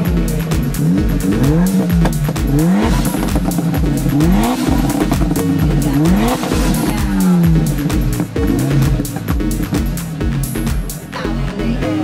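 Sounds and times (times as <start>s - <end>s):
car engine revving in blips: 0.0s - 12.0s
music with a steady beat: 0.0s - 12.0s.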